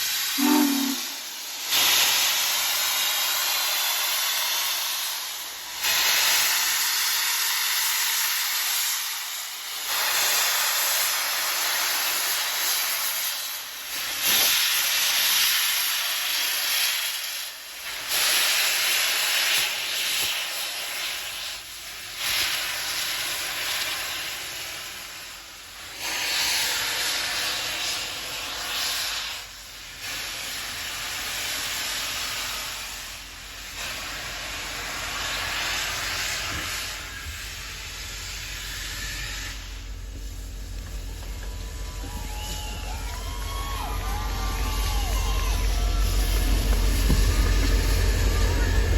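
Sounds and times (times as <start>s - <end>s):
rolling train rumble: 0.0s - 48.9s
steam locomotive hissing blasts: 0.0s - 48.9s.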